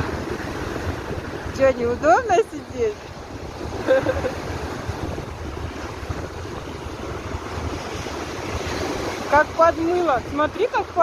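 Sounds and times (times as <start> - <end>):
waves washing onto shore: 0.0 - 11.0
wind buffeting microphone: 0.0 - 11.0.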